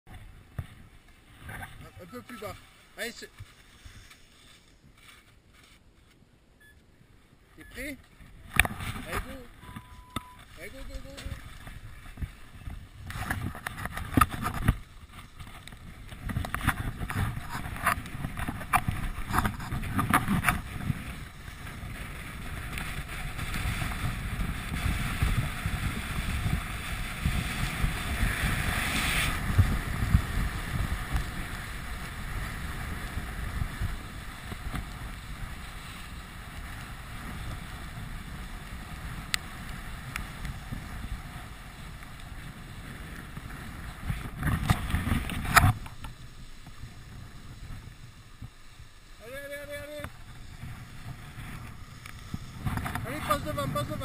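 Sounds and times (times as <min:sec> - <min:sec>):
wind rushing across microphone: 0:00.1 - 0:05.6, 0:06.2 - 0:54.0
skis scraping over snow: 0:00.1 - 0:06.2, 0:07.3 - 0:54.0.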